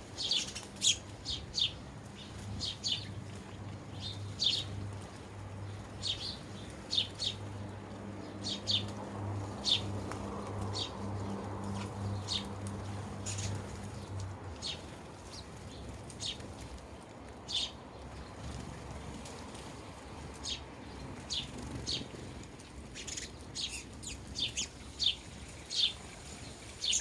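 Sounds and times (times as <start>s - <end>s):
sparrows chirping: 0.0s - 27.0s.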